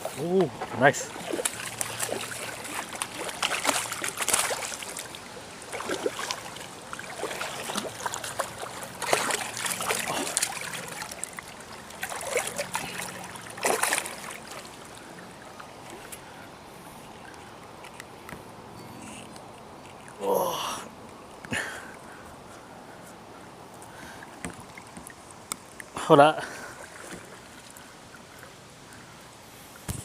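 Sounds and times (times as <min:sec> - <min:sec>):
river water splashing: 0:00.0 - 0:30.0.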